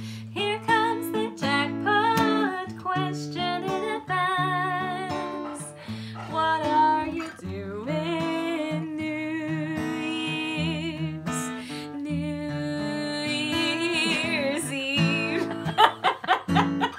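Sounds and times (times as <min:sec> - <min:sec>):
guitar accompaniment: 0:00.0 - 0:16.9.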